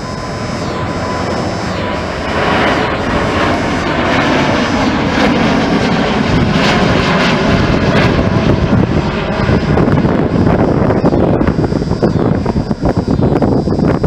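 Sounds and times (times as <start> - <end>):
airliner engines passing: 0.0 - 14.0.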